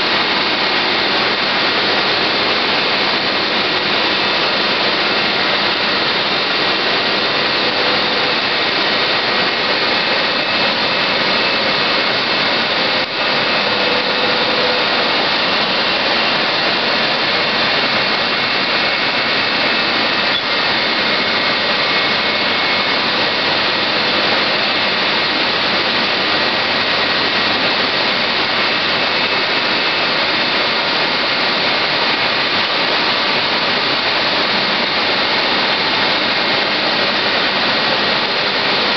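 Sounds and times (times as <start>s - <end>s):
foam-cutting machine running: 0.0s - 38.9s.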